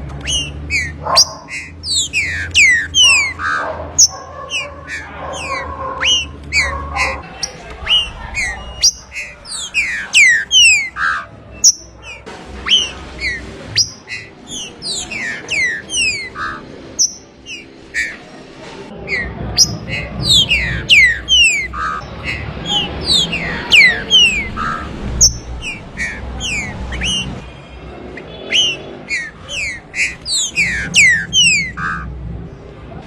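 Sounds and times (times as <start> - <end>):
bird singing whistled notes: 0.2 - 18.2, 19.1 - 27.4, 28.3 - 32.0.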